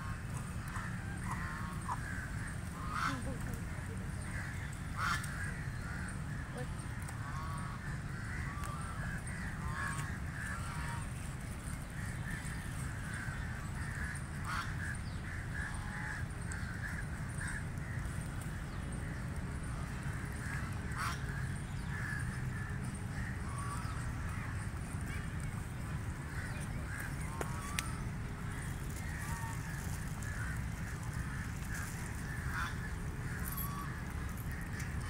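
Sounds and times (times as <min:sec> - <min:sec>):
ducks quacking: 0:00.0 - 0:11.2, 0:12.0 - 0:35.0
steady low rumble: 0:00.0 - 0:35.0.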